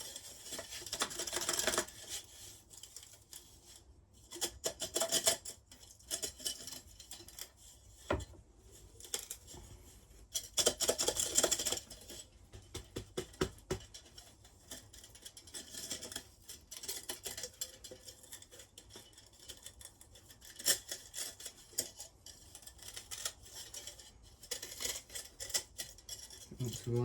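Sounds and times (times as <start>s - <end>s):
tools clicking and scraping: 0.0s - 27.0s.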